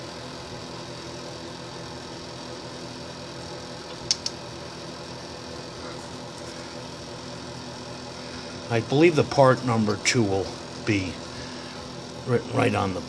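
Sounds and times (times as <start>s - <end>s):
space heater humming: 0.0s - 13.0s.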